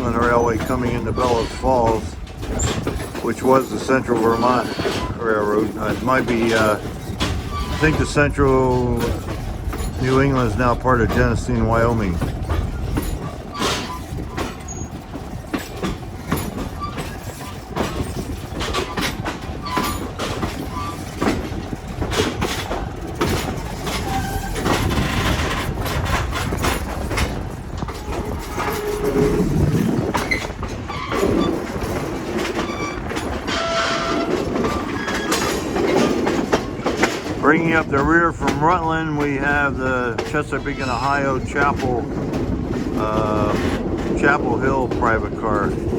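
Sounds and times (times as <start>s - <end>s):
train rumble: 0.0s - 45.9s
wheels clacking over rail joints: 0.0s - 45.9s.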